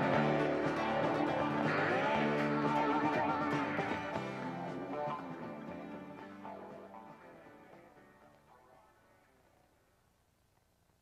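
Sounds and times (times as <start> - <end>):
guitar-led rock music: 0.0 - 9.9.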